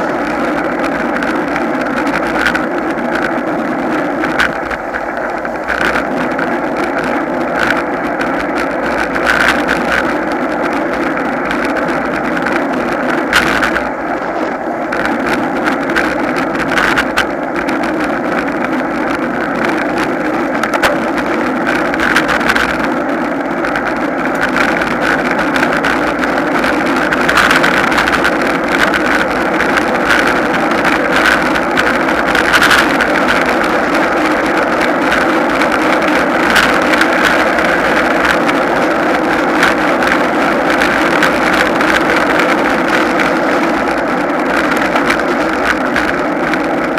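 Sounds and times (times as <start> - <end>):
bicycle road noise: 0.0 - 46.9
rushing wind: 0.0 - 46.9.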